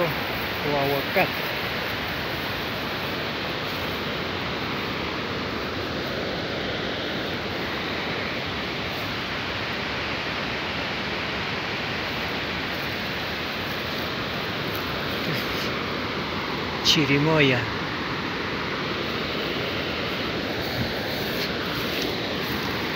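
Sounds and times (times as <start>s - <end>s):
running water rushing: 0.0s - 22.9s.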